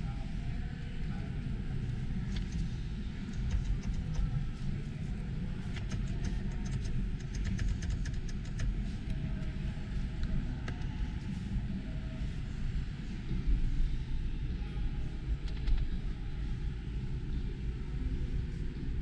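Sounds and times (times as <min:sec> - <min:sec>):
low rumble of hall background noise: 0:00.0 - 0:19.0.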